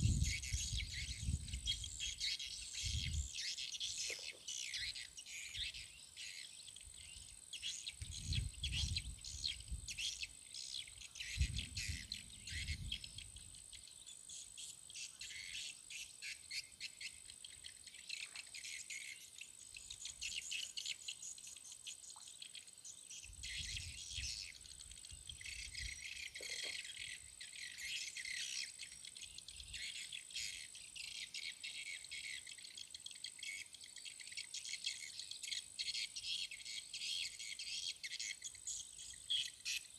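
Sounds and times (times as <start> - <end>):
bird chirps: 0.0 - 39.9
crickets and insects chirping: 0.0 - 39.9.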